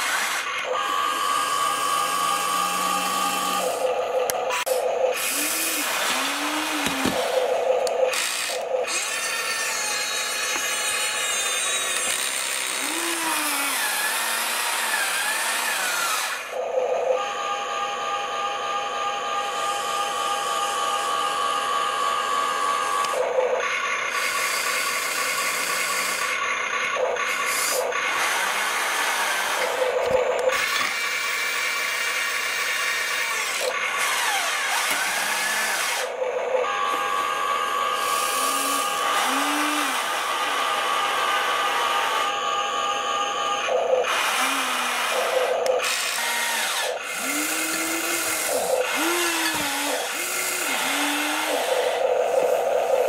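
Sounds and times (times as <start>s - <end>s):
toy excavator motors whining: 0.0s - 53.0s.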